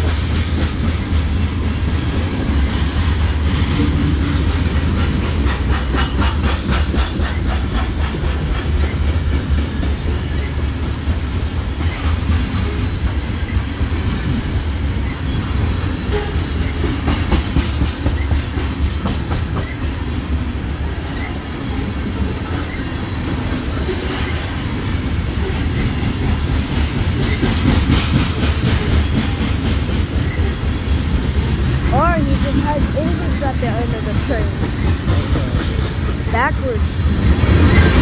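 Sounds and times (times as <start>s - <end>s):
train wheels rolling on rails: 0.0s - 38.0s.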